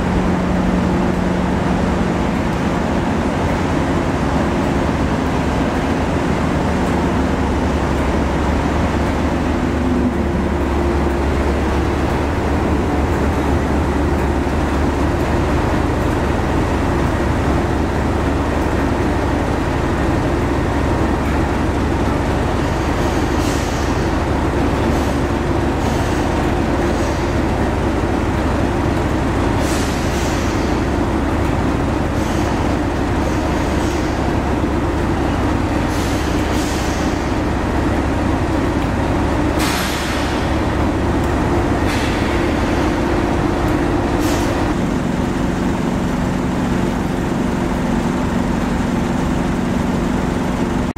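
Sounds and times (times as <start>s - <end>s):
diesel locomotive engine idling: 0.0s - 50.9s.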